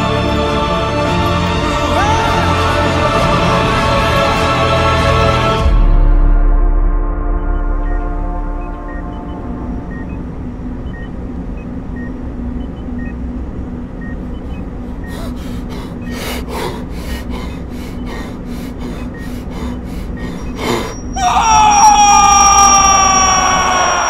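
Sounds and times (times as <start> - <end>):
low electronic hum: 0.0 - 21.2.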